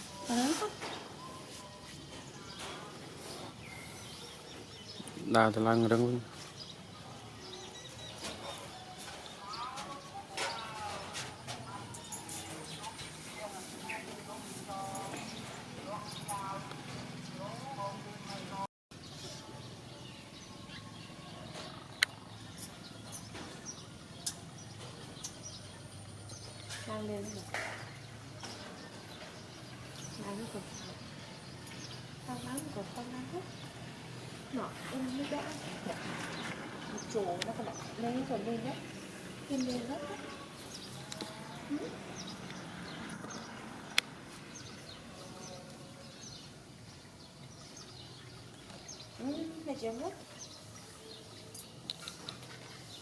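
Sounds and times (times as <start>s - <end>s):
small birds chirping: 0.0s - 53.0s
steady background noise: 0.0s - 53.0s.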